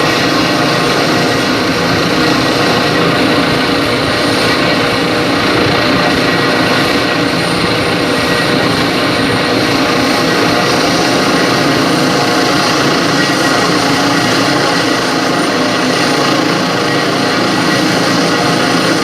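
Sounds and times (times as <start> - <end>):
helicopter turbine and rotor: 0.0 - 19.0.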